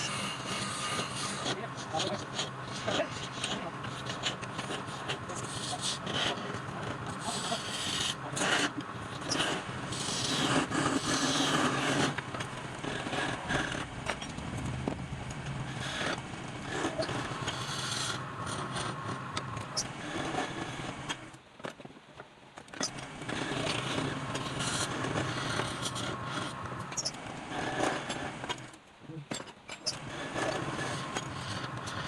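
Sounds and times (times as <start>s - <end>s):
steady low hum: 0.0s - 21.4s, 22.8s - 29.3s, 29.9s - 32.0s
scraping on wood: 0.0s - 21.8s, 22.7s - 28.7s, 29.4s - 32.0s.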